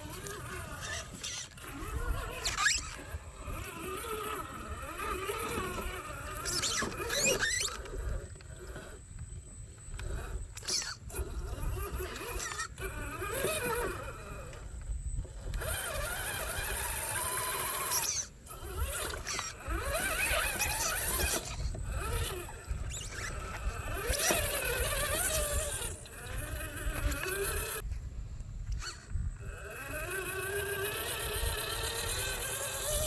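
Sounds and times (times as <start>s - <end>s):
electric motor whining: 0.0s - 27.8s, 28.7s - 33.0s.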